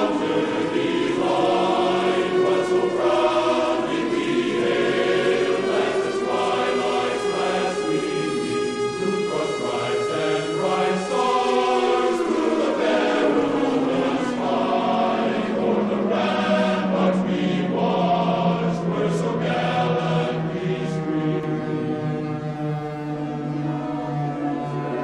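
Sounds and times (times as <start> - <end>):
low sliding drone tone: 0.0 - 25.0
slow choral music: 0.0 - 25.0.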